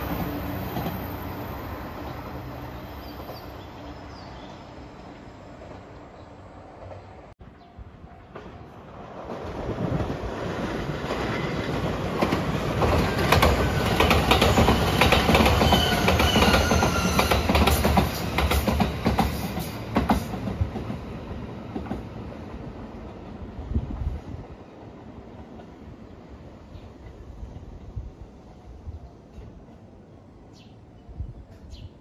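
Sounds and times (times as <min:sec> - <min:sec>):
electric train passing: 0:00.0 - 0:31.7.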